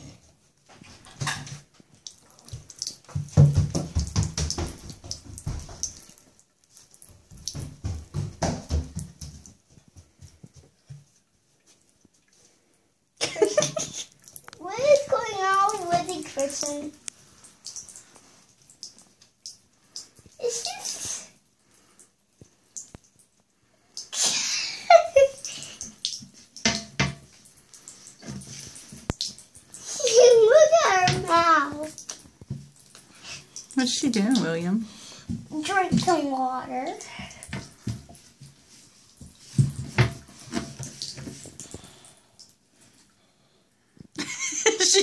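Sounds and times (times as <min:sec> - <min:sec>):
water splashing into sink: 0:00.8 - 0:09.6, 0:13.3 - 0:22.0, 0:23.9 - 0:42.5.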